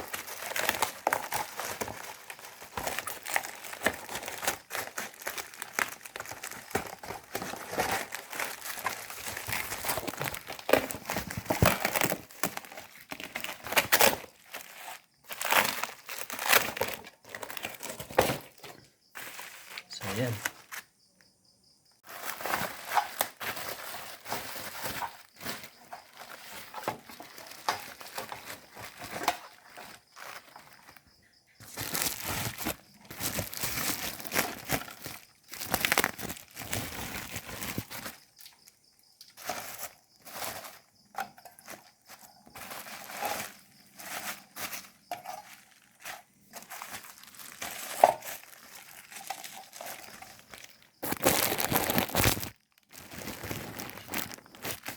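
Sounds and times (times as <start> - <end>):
plastic packaging crinkling: 0.0 - 20.8, 22.0 - 54.9.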